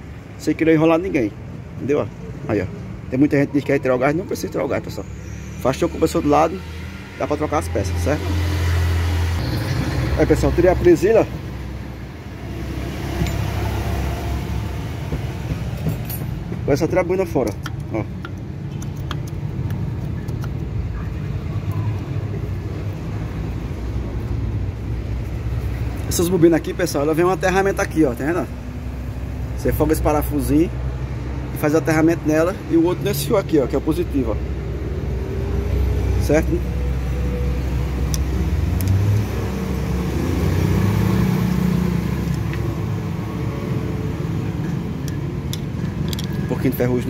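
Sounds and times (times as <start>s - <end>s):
engine low rumble: 0.0s - 47.0s.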